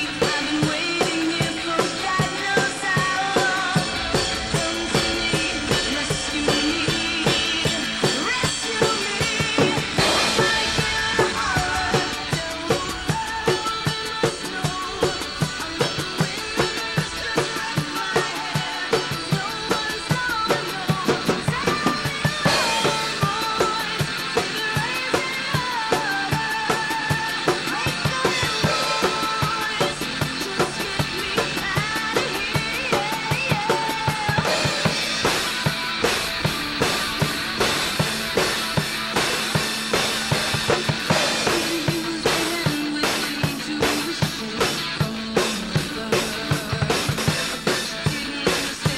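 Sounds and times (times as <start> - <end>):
cymbals: 0.0 - 48.9
rock music with drum kit: 0.0 - 48.9.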